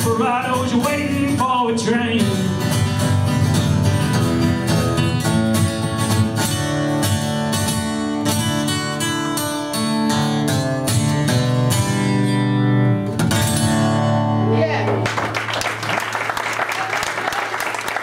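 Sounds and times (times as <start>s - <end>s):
acoustic guitar picking: 0.0s - 14.5s.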